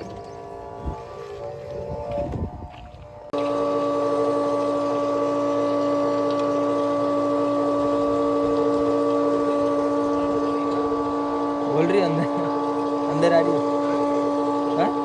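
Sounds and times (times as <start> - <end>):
excavator engine droning: 0.0 - 15.0.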